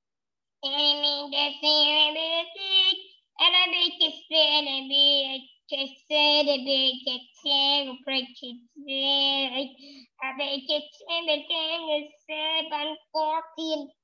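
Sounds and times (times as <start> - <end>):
child singing: 0.6 - 14.0.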